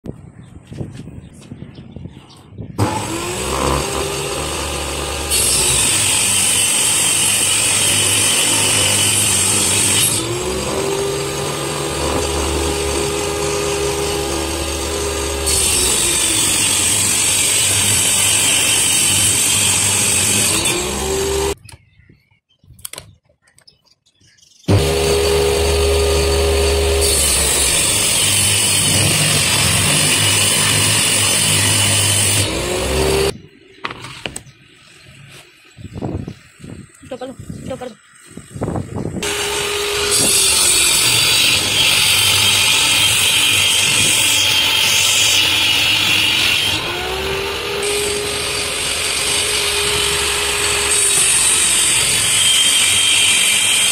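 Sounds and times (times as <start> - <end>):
table saw cutting board: 2.8 - 21.6, 24.7 - 34.4, 39.2 - 53.9.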